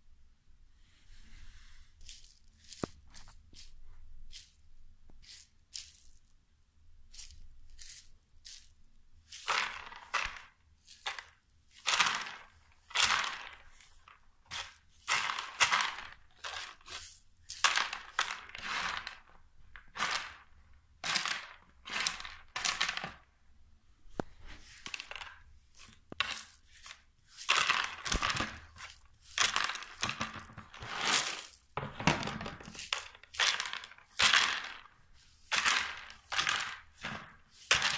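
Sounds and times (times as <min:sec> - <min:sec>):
dry beans rattling: 0:02.0 - 0:04.6, 0:05.2 - 0:06.3, 0:07.1 - 0:23.4, 0:24.6 - 0:37.9.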